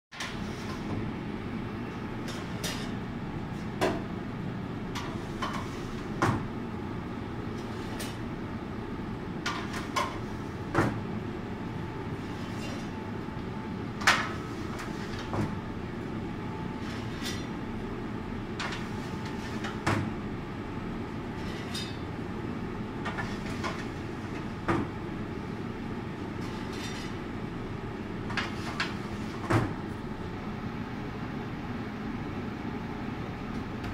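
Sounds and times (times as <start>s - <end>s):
steady low hum: 0.2s - 33.9s.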